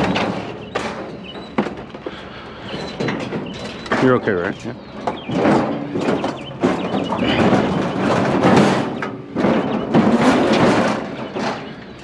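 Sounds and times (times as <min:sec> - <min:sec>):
scrap scraping and clattering: 0:00.0 - 0:12.0.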